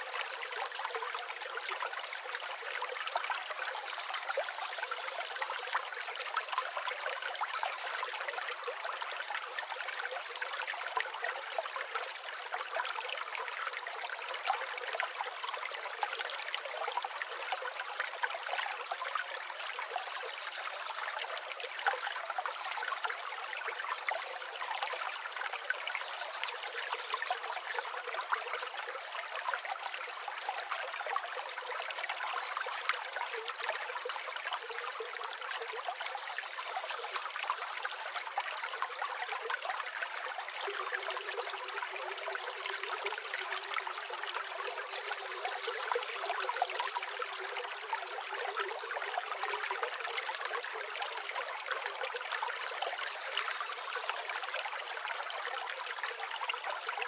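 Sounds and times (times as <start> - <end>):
river water trickling: 0.0 - 57.0.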